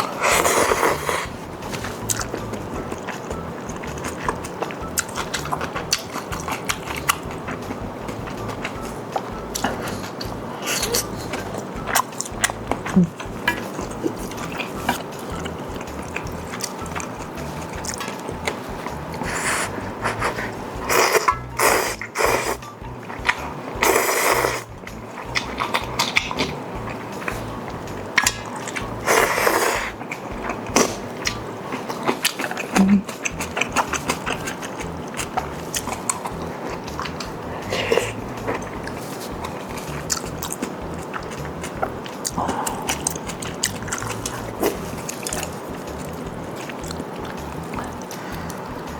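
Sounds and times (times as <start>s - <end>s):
clicky chewing: 0.0s - 48.9s
noisy slurps: 0.0s - 48.9s.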